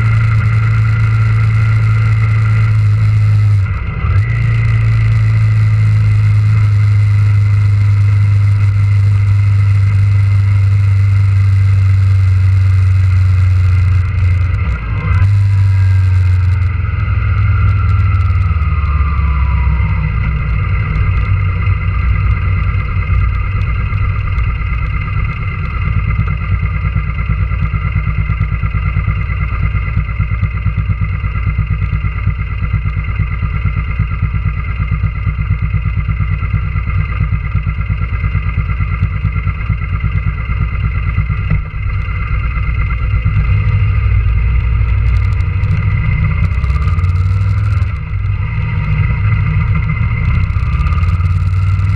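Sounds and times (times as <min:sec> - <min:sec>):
motorcycle engine idling: 0:00.0 - 0:51.9.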